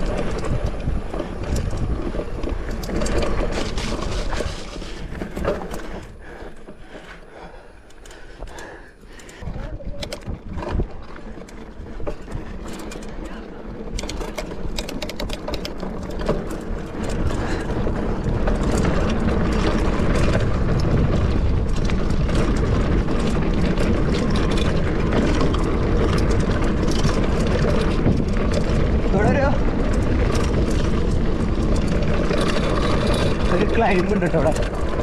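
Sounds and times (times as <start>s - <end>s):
bike rattling and clicking: 0.0s - 35.0s
bike tyres rolling over rock: 0.0s - 35.0s
wind rumble on microphone: 0.0s - 35.0s.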